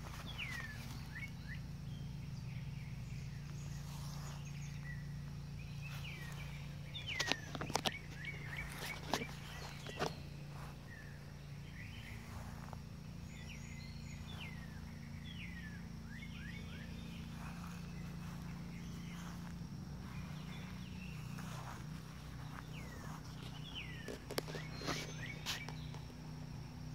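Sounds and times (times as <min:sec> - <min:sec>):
birds chirping: 0:00.0 - 0:26.9
high insect drone: 0:00.0 - 0:26.9
steady low hum: 0:00.0 - 0:26.9.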